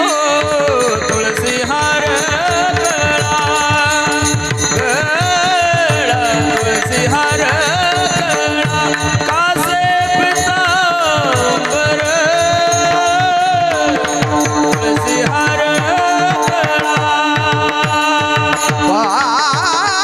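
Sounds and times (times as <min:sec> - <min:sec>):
devotional singing: 0:00.0 - 0:20.0.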